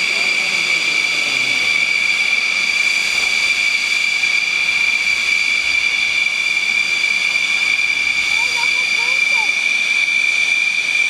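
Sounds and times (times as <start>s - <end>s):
microlight engine whine: 0.0s - 11.0s.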